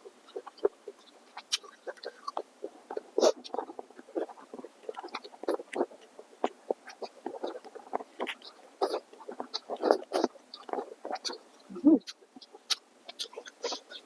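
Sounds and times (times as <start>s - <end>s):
wet chewing and lip smacks: 0.3s - 11.4s, 12.0s - 14.0s.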